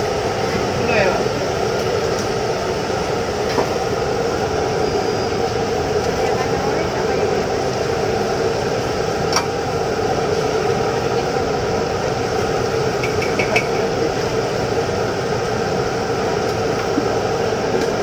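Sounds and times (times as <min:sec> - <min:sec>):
gas burner roar: 0:00.0 - 0:18.0
oil sizzling in a wok: 0:00.0 - 0:18.0.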